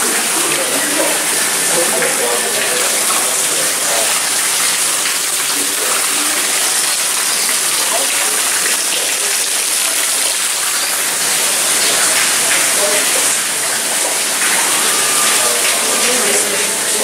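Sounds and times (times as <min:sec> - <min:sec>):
faint voices: 0:00.0 - 0:04.5, 0:05.4 - 0:10.4, 0:11.3 - 0:17.0
running water rushing: 0:00.0 - 0:17.0.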